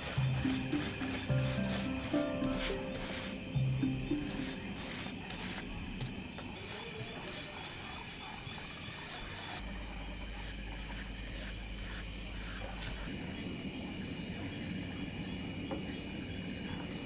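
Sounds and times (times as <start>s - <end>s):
insects trilling: 0.0s - 16.9s.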